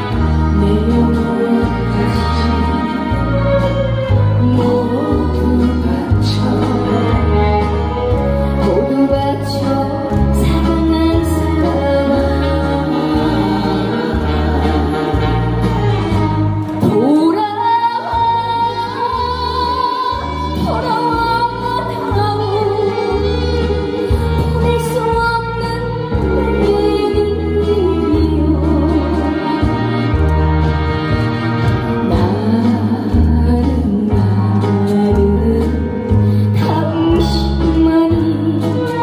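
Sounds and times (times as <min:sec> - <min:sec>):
woman singing: 0:00.0 - 0:30.6, 0:31.8 - 0:39.0.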